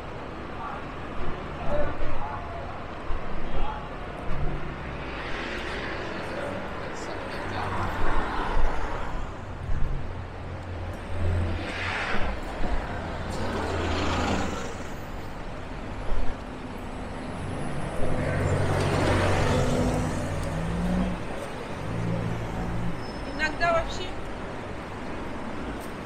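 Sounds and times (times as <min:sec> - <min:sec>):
vehicles passing: 0:00.0 - 0:26.0.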